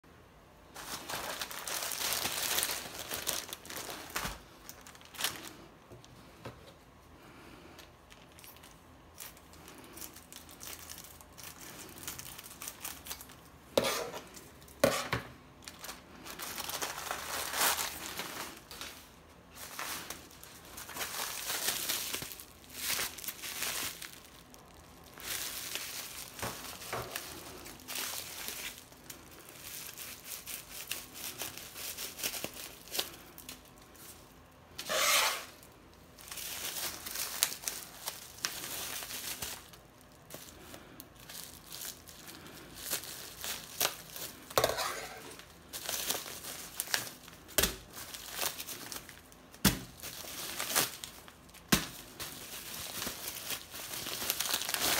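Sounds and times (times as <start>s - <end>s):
plastic and bubble wrap crinkling: 0.6s - 54.9s.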